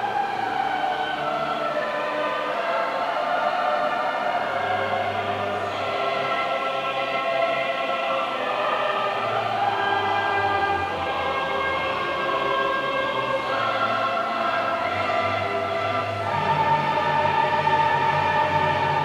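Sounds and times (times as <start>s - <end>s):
choir singing long chords: 0.0s - 19.0s.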